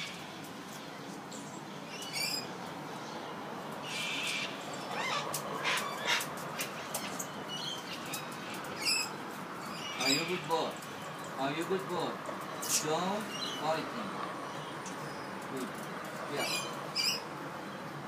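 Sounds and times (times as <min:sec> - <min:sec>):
birds chirping and screeching: 0:00.0 - 0:18.0.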